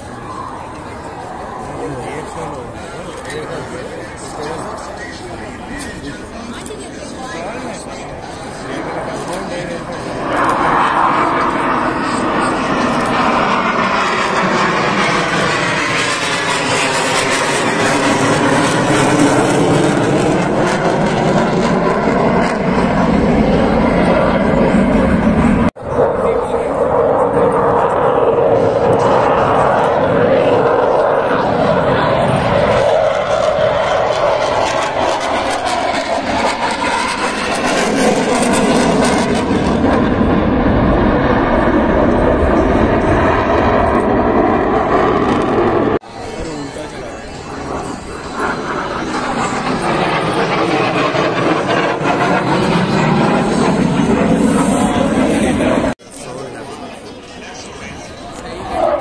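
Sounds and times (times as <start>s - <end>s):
jet engine noise: 0.0s - 59.0s.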